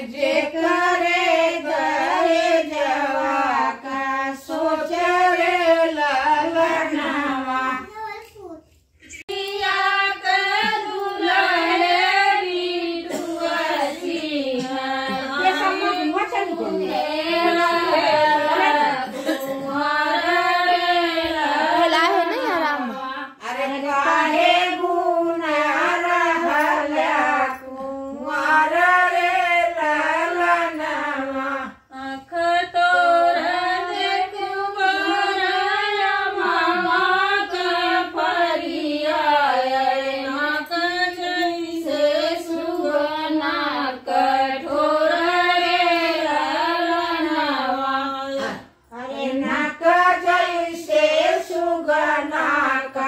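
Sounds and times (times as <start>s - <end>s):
women singing a folk song: 0.0s - 7.9s, 9.0s - 53.0s.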